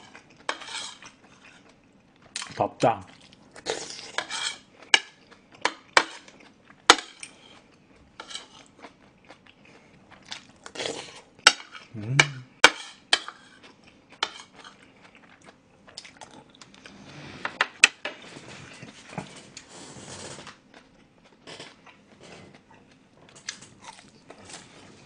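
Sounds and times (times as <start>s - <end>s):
chewing: 0.1s - 11.9s, 13.4s - 17.0s, 18.3s - 25.0s.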